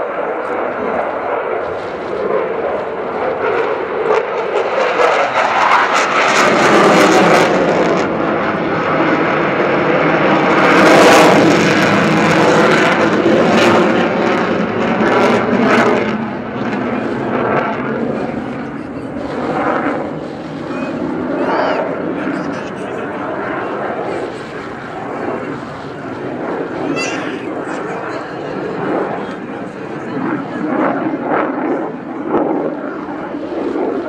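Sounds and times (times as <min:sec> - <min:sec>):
jet engine passing: 0:00.0 - 0:34.0.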